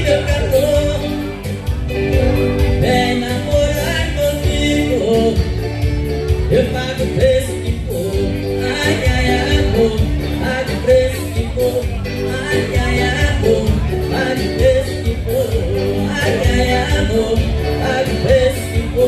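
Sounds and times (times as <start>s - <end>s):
live band dance music over pa: 0.0s - 19.0s.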